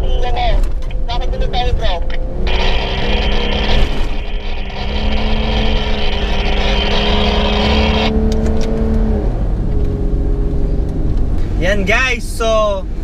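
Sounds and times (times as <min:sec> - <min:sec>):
suv engine rumble: 0:00.0 - 0:13.0.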